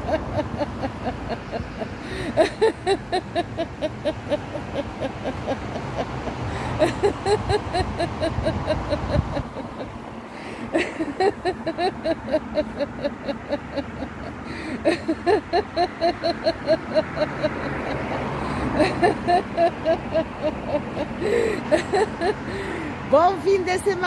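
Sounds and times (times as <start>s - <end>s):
woman laughing: 0.0s - 22.9s
low road traffic rumble: 0.0s - 24.0s.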